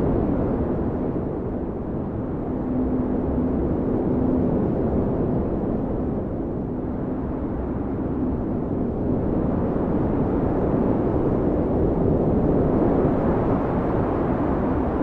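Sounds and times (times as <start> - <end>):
strong blizzard wind: 0.0 - 15.0.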